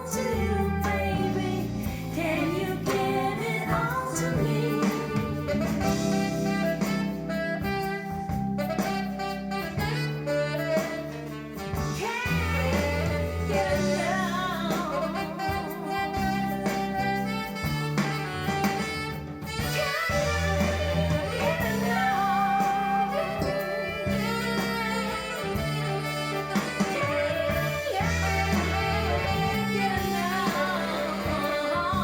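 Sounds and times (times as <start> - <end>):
pop song over loudspeakers: 0.0 - 32.0.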